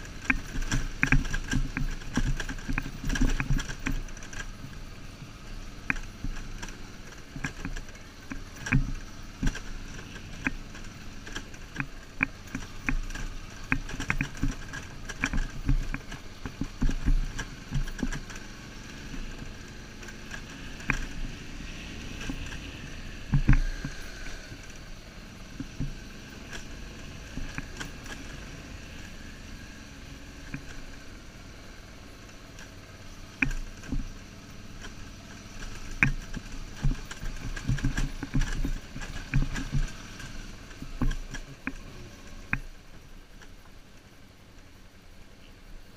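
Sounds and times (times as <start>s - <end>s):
motorcycle jolting over stones: 0.0s - 31.2s, 32.1s - 42.6s
motorcycle engine rumble: 0.0s - 45.9s
wind: 0.0s - 45.9s.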